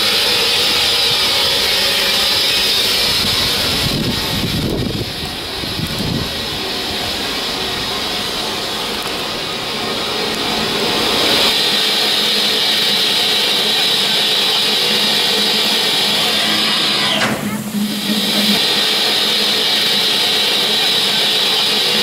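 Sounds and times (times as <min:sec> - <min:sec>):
steam hissing: 0:00.0 - 0:22.0.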